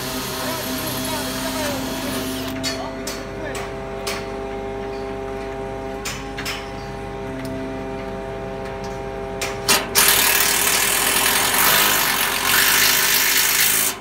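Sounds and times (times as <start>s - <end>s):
crane engine and hydraulics running: 0.0s - 14.0s.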